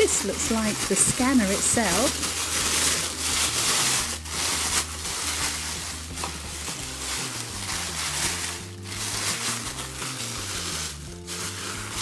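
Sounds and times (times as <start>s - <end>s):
background music: 0.0s - 12.0s
plastic wrapping crinkling: 0.0s - 12.0s.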